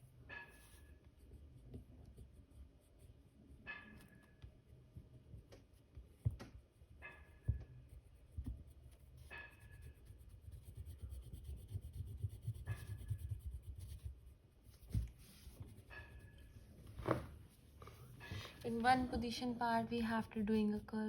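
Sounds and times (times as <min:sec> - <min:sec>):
scratchy colouring strokes on paper: 0:00.0 - 0:21.0.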